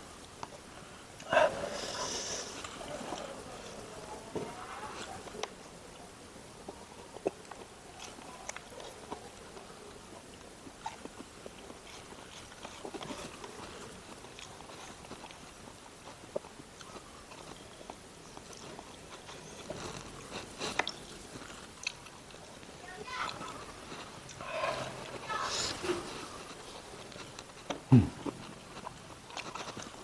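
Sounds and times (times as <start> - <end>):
person chewing food: 5.1 - 30.0.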